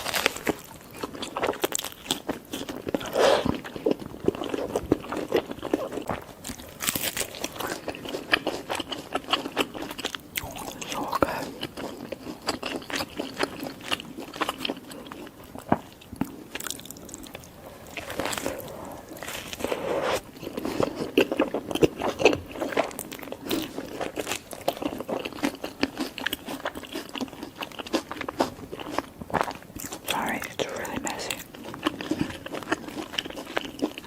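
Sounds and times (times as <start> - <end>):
crunchy bites of burger: 0.0 - 34.0
wet crackling chewing: 0.0 - 34.0.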